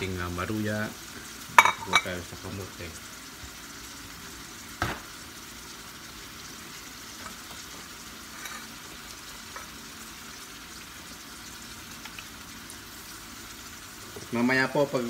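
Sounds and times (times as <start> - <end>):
slices frying in oil: 0.0 - 15.0.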